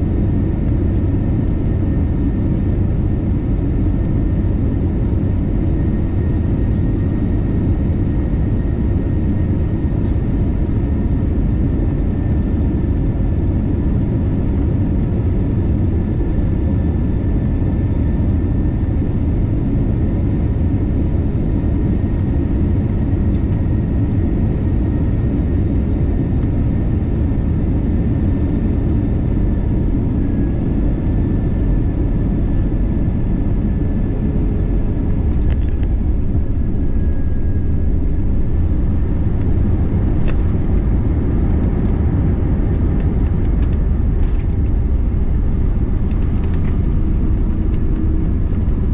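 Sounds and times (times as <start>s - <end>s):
faint steady whine: 0.0s - 48.9s
jet engine and airflow rumble: 0.0s - 48.9s.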